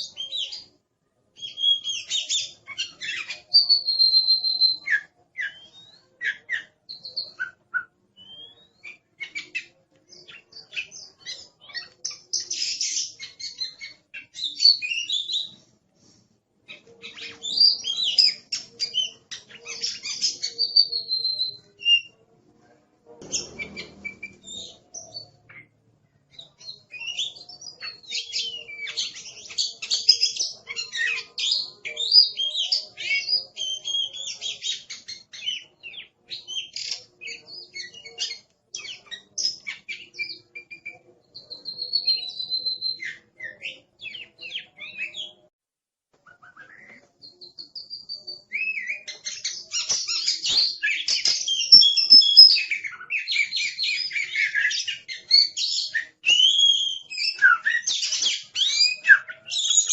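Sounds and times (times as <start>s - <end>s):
bird singing whistles and chatter: 1.4s - 15.6s, 16.7s - 22.2s, 23.2s - 45.5s, 46.3s - 59.9s.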